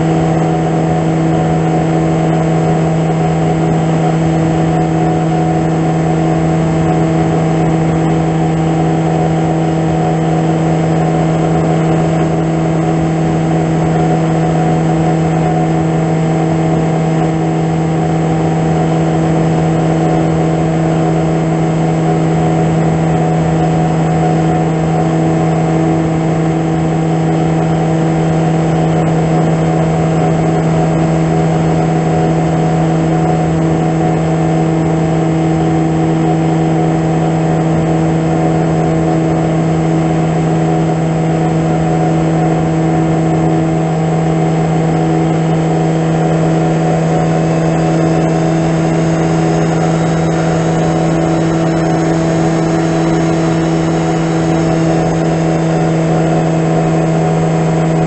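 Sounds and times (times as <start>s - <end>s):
electric motor and propeller hum: 0.0s - 58.0s.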